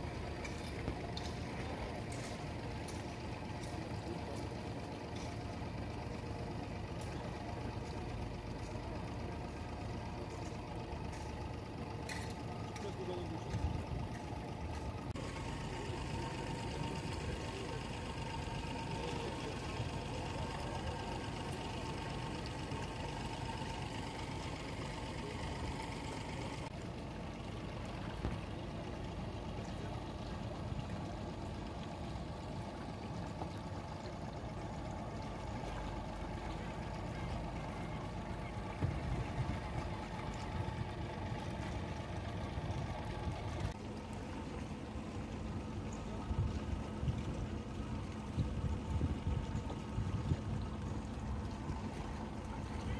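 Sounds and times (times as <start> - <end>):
motorboat engine running: 0.0 - 52.9.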